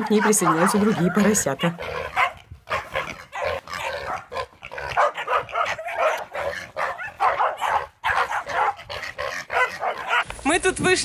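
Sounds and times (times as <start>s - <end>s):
pigs grunting: 0.0s - 10.3s
dogs barking: 0.0s - 10.4s.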